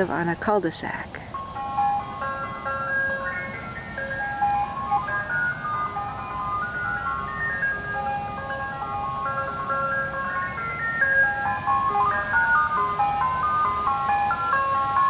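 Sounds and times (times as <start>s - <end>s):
ice cream truck jingle: 0.0s - 15.0s
truck engine rumble: 0.0s - 15.0s.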